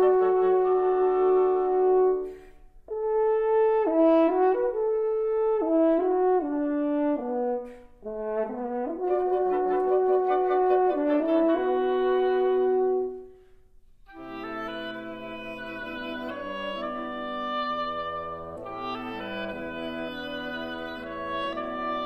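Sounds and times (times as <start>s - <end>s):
wind quintet playing: 0.0s - 22.0s.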